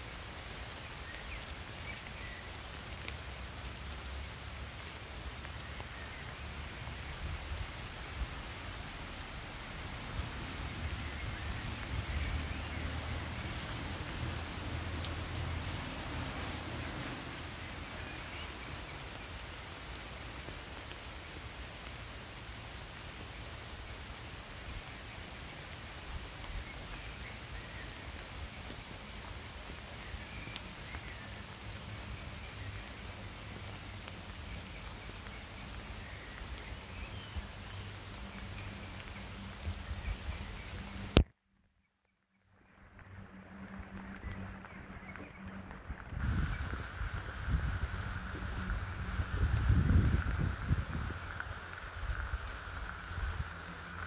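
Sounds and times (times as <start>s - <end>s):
songbirds chirping: 0.0s - 41.2s, 41.8s - 54.0s
steady outdoor hiss: 0.0s - 54.0s.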